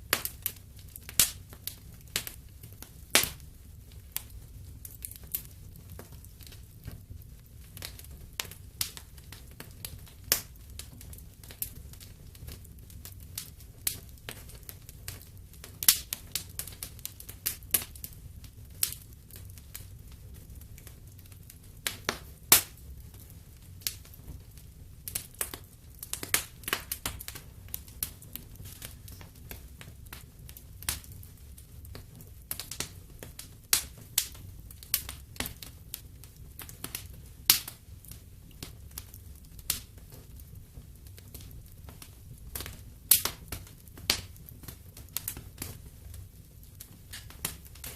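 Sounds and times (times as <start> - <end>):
low rumble of burning: 0.0 - 47.9
wood fire crackling: 0.0 - 47.9.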